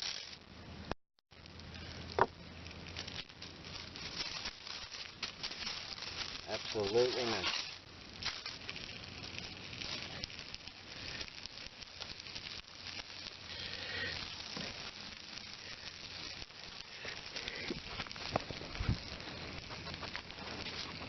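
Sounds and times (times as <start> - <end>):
food sizzling in a pan: 1.4 - 21.0.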